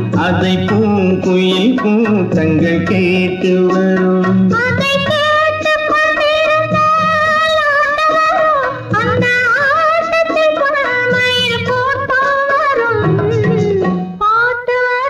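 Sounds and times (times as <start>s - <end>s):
held melody line with vibrato: 0.0s - 15.0s.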